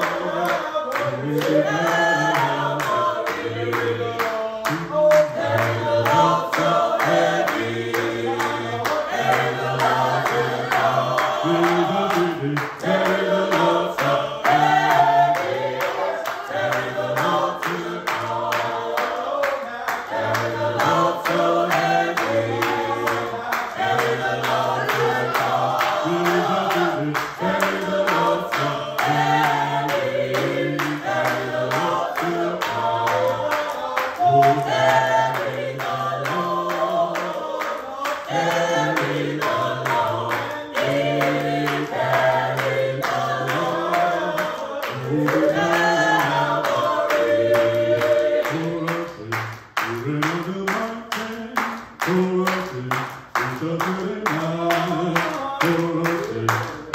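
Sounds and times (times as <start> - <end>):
choir singing a hymn: 0.0 - 56.9
steady beat of sharp strokes: 0.0 - 56.9.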